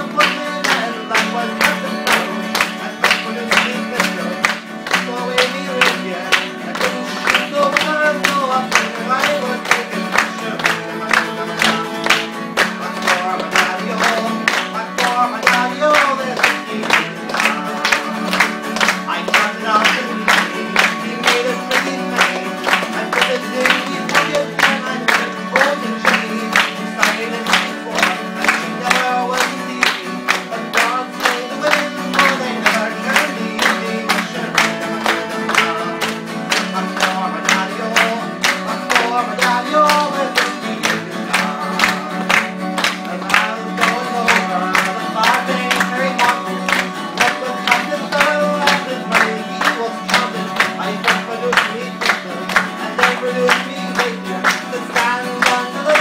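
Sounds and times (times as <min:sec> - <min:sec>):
acoustic guitar strumming: 0:00.0 - 0:56.0
man singing: 0:00.0 - 0:56.0.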